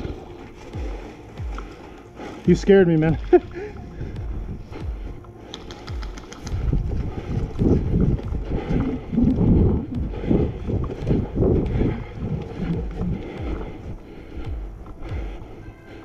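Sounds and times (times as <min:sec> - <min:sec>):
footsteps on grass: 0:00.0 - 0:15.7
gear jostling: 0:00.0 - 0:16.0
wind buffeting microphone: 0:00.0 - 0:16.0.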